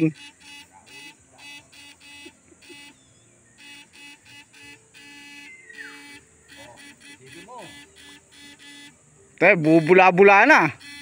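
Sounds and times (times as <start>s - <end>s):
electronic buzzing pulses: 0.0s - 11.0s.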